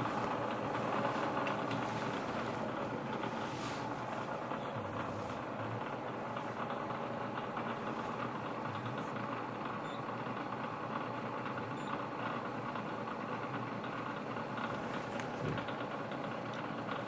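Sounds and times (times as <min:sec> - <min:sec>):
milling machine running: 0:00.0 - 0:17.0.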